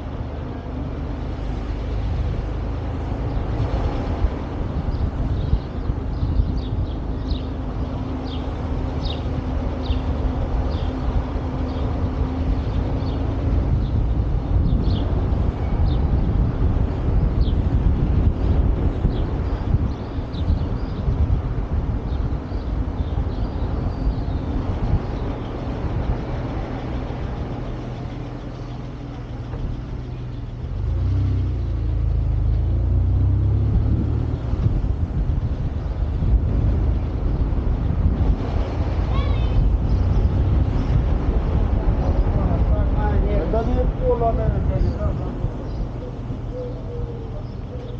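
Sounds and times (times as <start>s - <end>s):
vehicle wind and road noise: 0.0s - 47.9s.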